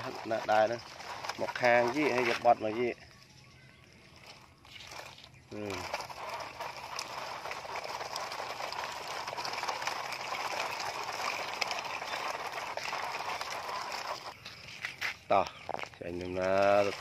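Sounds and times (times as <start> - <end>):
plastic wheels crunching on gravel: 0.0 - 17.0.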